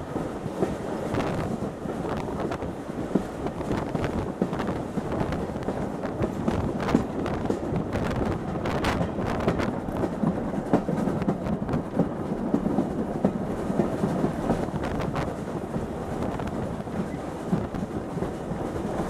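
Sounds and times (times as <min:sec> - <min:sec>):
train rumbling: 0:00.0 - 0:19.0
wheels clicking on track: 0:00.0 - 0:19.0.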